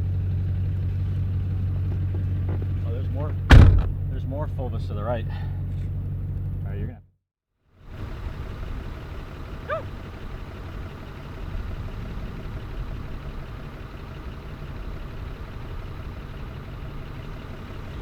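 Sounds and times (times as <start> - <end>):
low engine hum: 0.0 - 7.1, 7.7 - 18.0.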